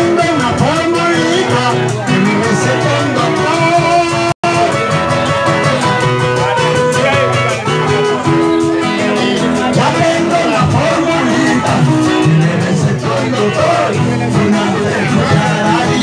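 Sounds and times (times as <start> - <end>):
live guitar music: 0.0 - 16.0.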